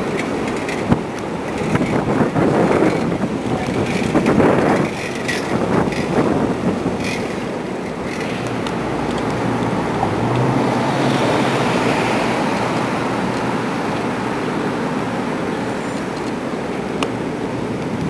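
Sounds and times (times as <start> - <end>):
car passing: 0.0 - 18.0
city traffic noise: 0.0 - 18.0.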